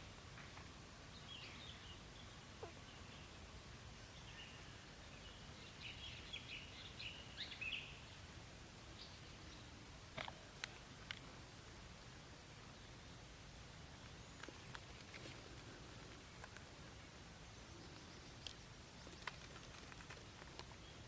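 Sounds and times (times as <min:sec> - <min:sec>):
low outdoor background noise: 0:00.0 - 0:21.0.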